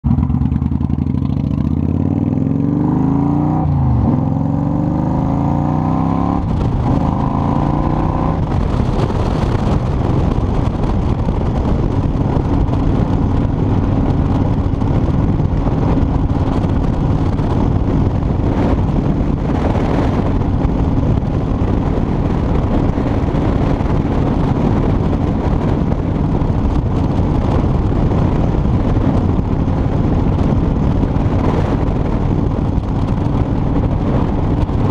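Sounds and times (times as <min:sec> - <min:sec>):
motorcycle engine accelerating: 0:00.0 - 0:34.9
wind rush on microphone: 0:00.0 - 0:34.9.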